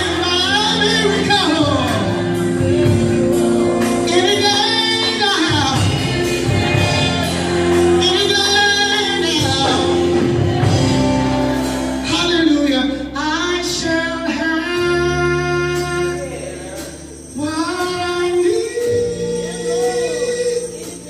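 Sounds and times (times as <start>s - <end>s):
gospel singing with vocal runs: 0.0s - 21.0s
held instrumental chords: 0.0s - 21.0s.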